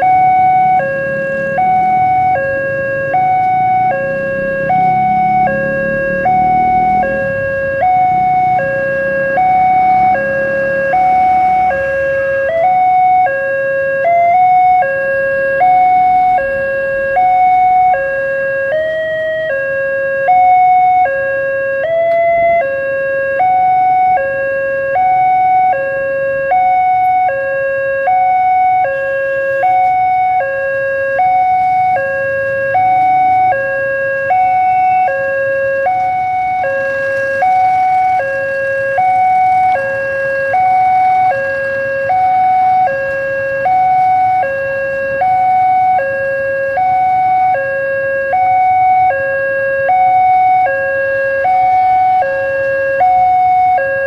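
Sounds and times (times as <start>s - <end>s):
level crossing two-tone alarm: 0.0s - 54.0s.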